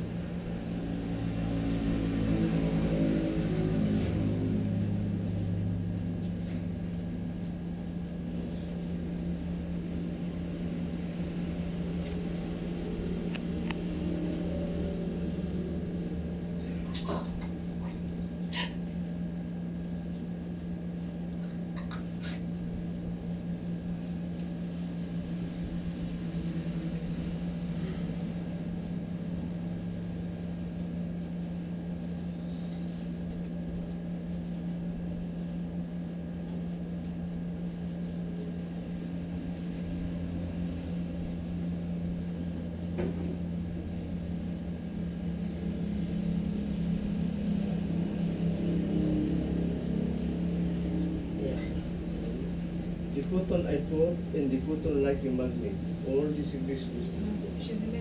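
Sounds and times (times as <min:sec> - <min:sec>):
air conditioner humming: 0:00.0 - 0:58.0.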